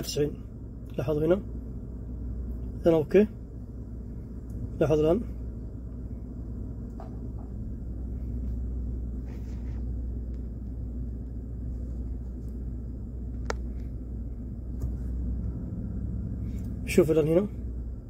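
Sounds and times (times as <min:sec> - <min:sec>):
engine idling low rumble: 0:00.0 - 0:18.0.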